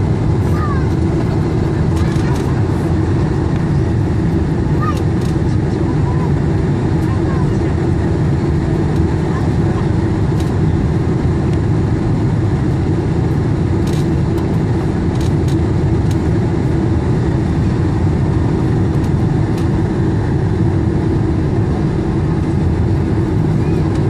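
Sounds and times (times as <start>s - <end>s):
airplane engines rumbling: 0.0s - 24.0s.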